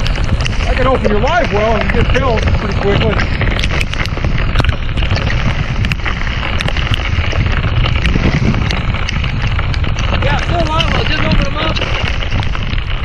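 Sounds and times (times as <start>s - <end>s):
heavy rain on a lake: 0.0s - 13.0s
sharp ticks: 0.0s - 13.0s
wind buffeting microphone: 0.0s - 13.0s.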